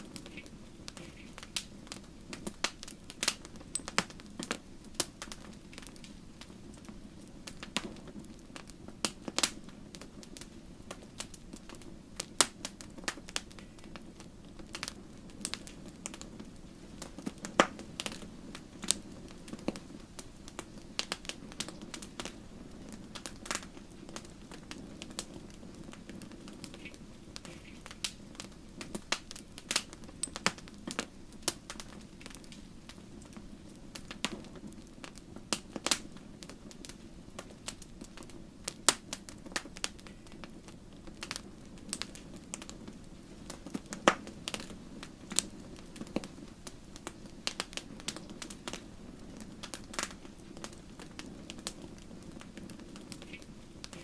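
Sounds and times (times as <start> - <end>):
logs crackling and popping: 0.0 - 54.0
low rush of flames: 0.0 - 54.0.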